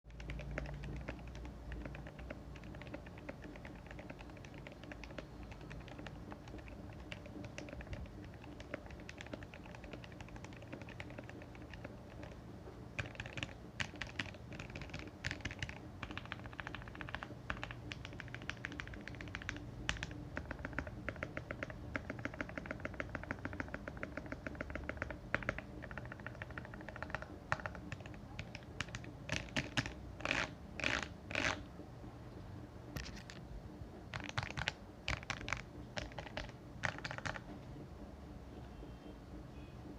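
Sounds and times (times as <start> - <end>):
mechanical keyboard typing: 0.1 - 31.7, 33.0 - 33.5, 34.1 - 37.6.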